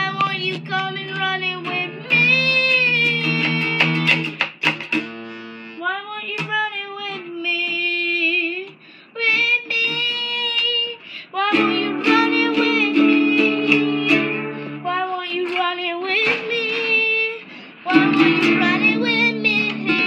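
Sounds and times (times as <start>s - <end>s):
boy singing: 0.0s - 4.4s, 5.8s - 20.0s
acoustic guitar strumming: 0.0s - 7.8s, 11.5s - 20.0s.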